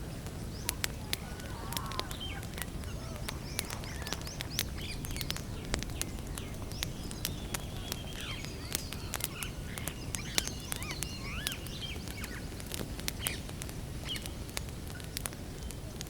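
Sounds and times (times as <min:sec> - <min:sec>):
campfire crackling and popping: 0:00.0 - 0:16.0
birds chirping: 0:00.4 - 0:15.9.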